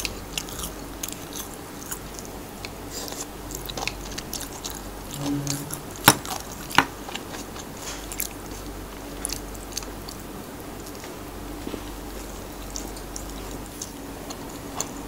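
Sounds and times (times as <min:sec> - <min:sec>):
close chewing with wet clicks: 0:00.0 - 0:05.1, 0:05.9 - 0:15.0.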